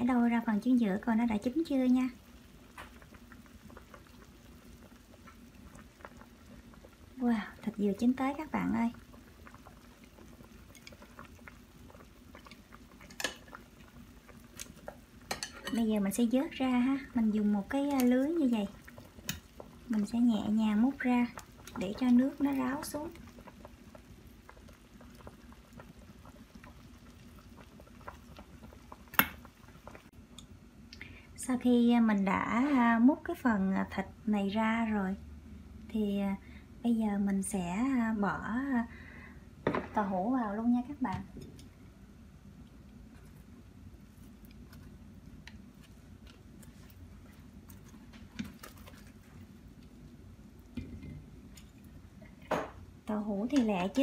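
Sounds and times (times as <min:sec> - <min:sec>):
broth boiling and bubbling: 0:00.0 - 0:54.0.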